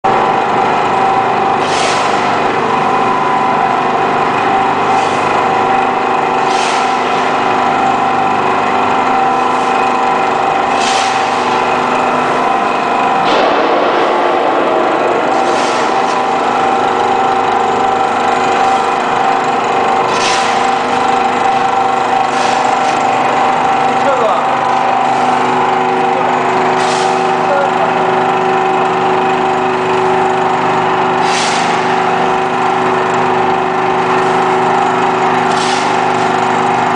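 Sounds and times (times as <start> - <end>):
hydraulic press hum and whine: 0.0 - 36.9.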